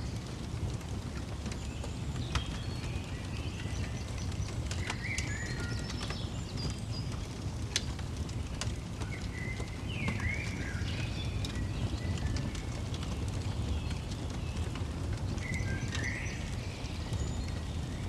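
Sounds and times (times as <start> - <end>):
songbirds singing: 0.0 - 18.0
wood fire crackling: 0.0 - 18.0.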